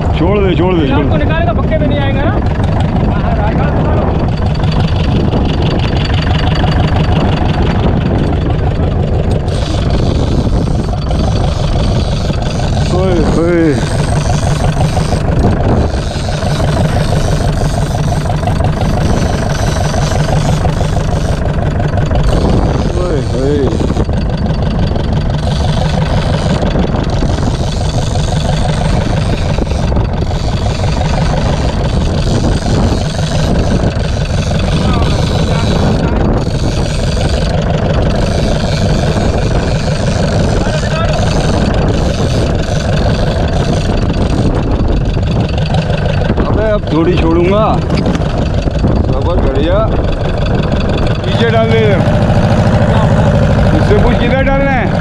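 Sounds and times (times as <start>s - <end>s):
boat diesel engine droning: 0.0s - 55.0s.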